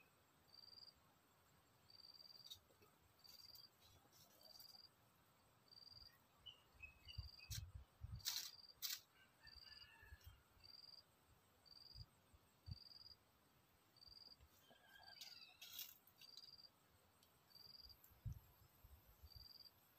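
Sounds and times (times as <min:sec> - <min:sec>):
faint insect chirping: 0:00.0 - 0:19.9.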